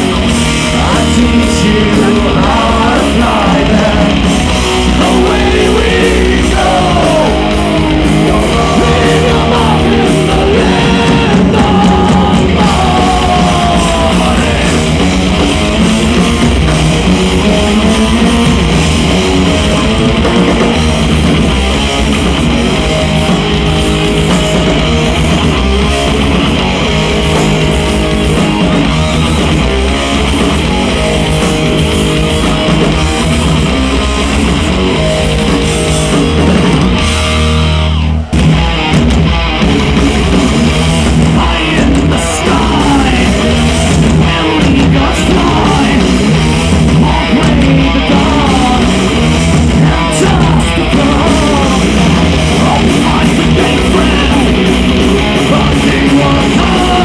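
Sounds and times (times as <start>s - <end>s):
metal band playing live: 0.0s - 57.0s.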